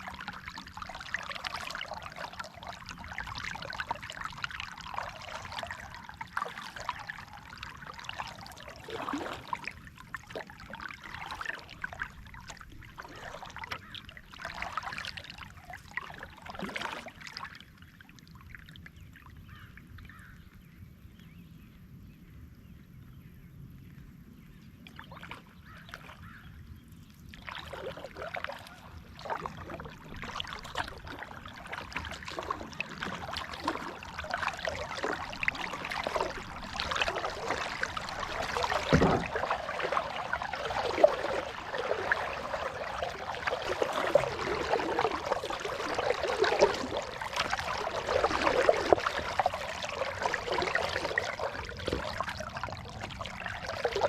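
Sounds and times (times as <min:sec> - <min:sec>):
paddle splashing water: 0:00.0 - 0:20.5, 0:24.9 - 0:54.0.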